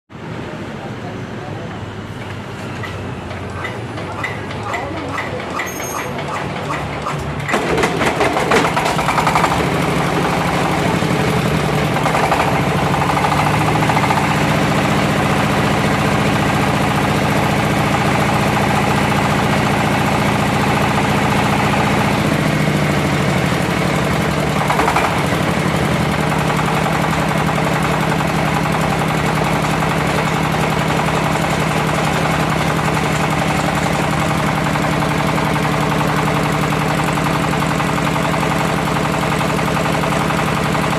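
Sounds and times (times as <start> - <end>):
engine cranking and idling: 2.2 - 40.9.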